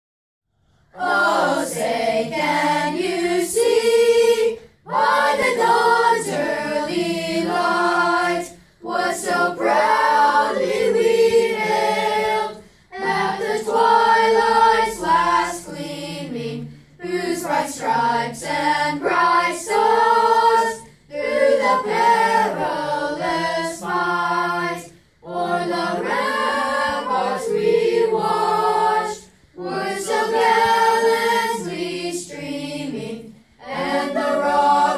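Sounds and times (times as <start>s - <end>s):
boys' choir singing unaccompanied: 0.9s - 34.9s.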